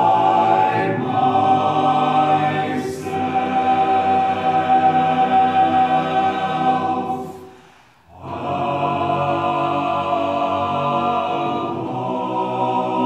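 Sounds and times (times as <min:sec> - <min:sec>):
men's chorus singing a cappella: 0:00.0 - 0:13.0.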